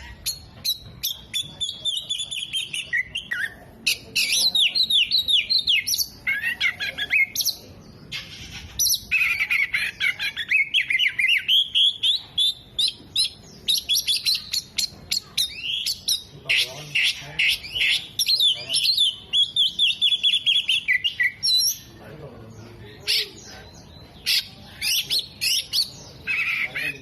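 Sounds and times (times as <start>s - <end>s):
bird singing varied chirps and trills: 0.0s - 27.0s.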